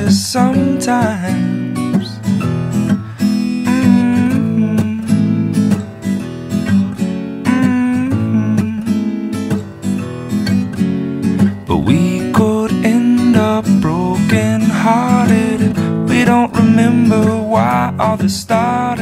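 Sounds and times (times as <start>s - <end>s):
song with strummed acoustic guitar: 0.0s - 19.0s.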